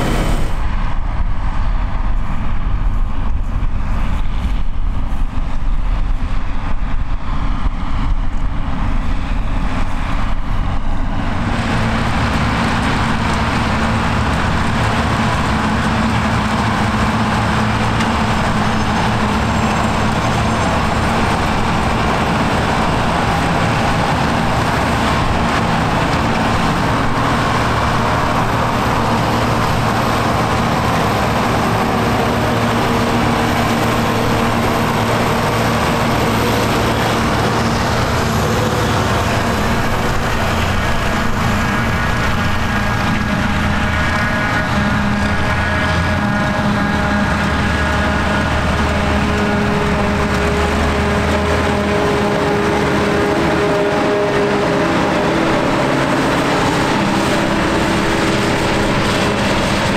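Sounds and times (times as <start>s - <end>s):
forage harvester diesel engines: 0.0s - 59.9s.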